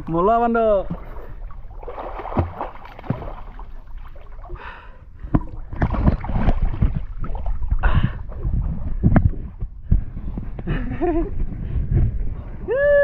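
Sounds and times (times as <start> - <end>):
water splashing and sloshing: 0.0 - 12.4.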